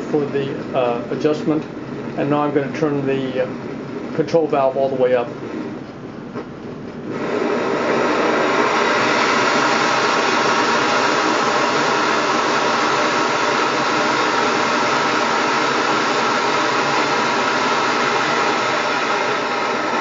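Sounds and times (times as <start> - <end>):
gas stove flame rushing: 0.0 - 20.0.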